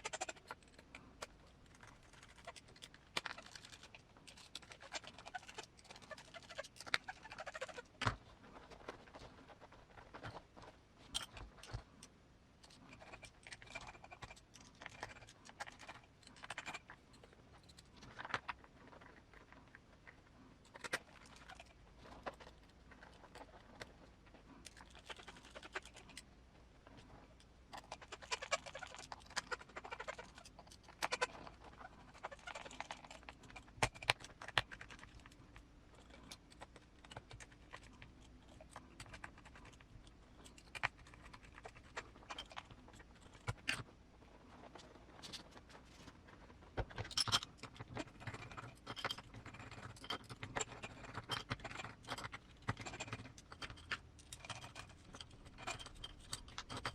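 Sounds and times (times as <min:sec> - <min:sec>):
small plastic and metal parts clicking: 0:00.0 - 0:26.3, 0:27.4 - 0:43.9, 0:46.7 - 0:56.9.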